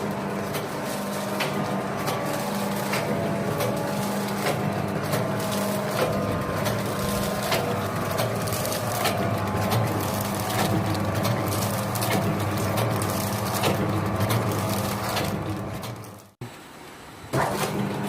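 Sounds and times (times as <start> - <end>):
machine motor hum: 0.0 - 16.4, 17.4 - 18.0
packing machine clacking: 0.0 - 16.4, 17.4 - 18.0.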